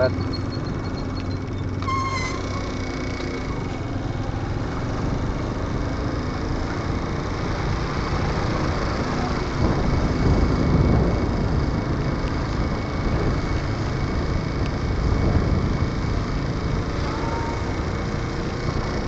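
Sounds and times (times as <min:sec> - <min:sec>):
motorcycle wind and road noise: 0:00.0 - 0:19.0.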